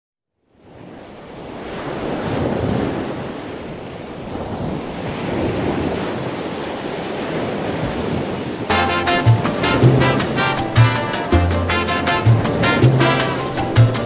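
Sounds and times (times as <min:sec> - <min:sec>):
ocean waves washing in: 0:00.5 - 0:14.0.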